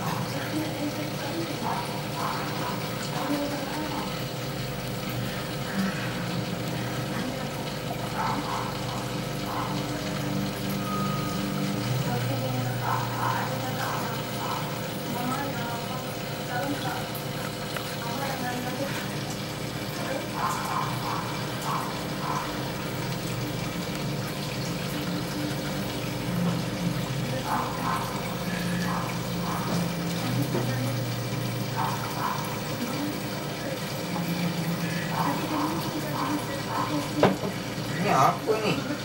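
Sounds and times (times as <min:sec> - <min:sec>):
water trickling from filter: 0:00.0 - 0:39.0.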